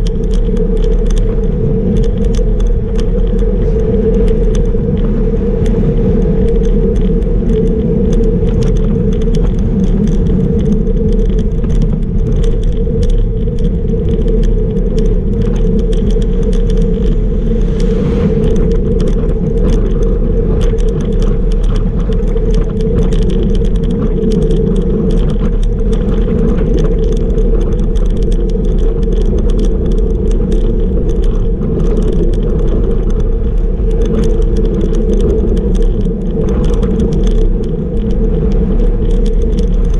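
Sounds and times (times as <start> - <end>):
bicycle road rumble: 0.0 - 39.9
rattles and ticks from mount: 0.0 - 39.9
wind on microphone: 0.0 - 39.9.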